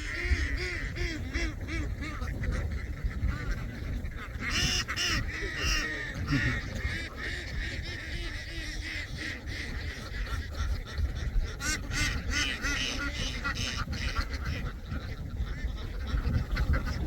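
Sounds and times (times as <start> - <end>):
flock of ducks quacking: 0.0 - 17.0.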